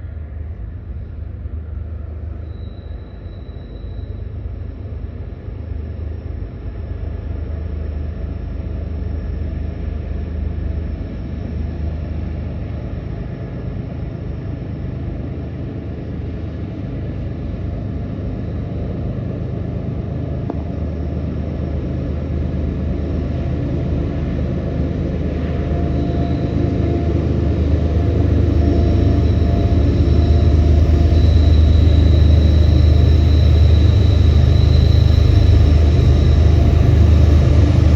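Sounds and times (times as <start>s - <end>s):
diesel locomotives rumbling: 0.0s - 37.9s.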